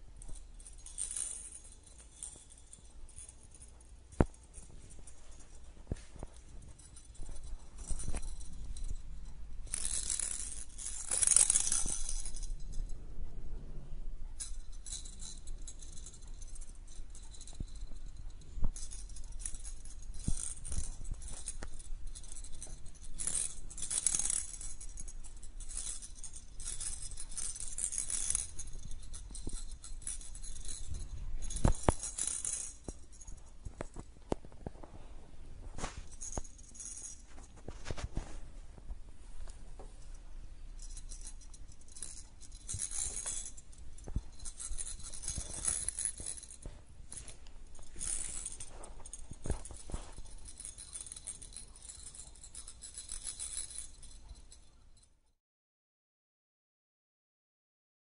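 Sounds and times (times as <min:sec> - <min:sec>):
plastic rattle toy jingling: 0:00.0 - 0:12.9, 0:14.4 - 0:34.1, 0:40.8 - 0:55.1.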